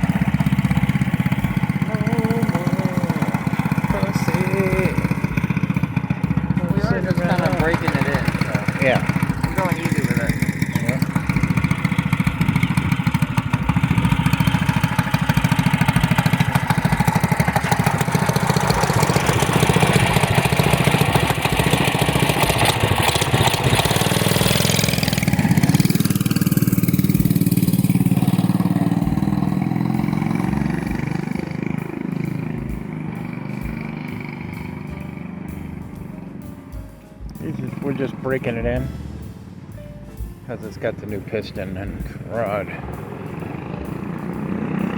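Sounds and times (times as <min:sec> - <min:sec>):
mini bike engine running: 0:00.0 - 0:36.6, 0:37.2 - 0:38.9, 0:40.5 - 0:44.9.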